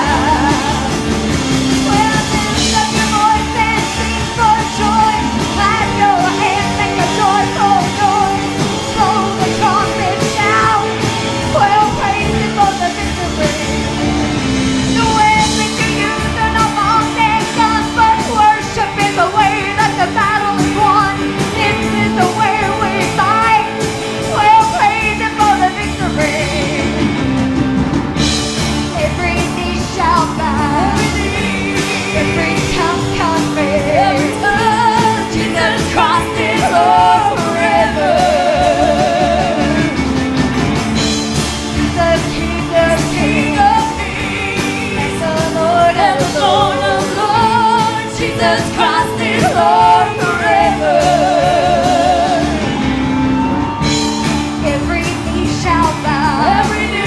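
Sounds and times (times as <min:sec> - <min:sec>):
lead voice singing with vibrato: 0:00.0 - 0:57.0
steady drum beat: 0:00.0 - 0:57.0
sustained chords: 0:00.0 - 0:57.0.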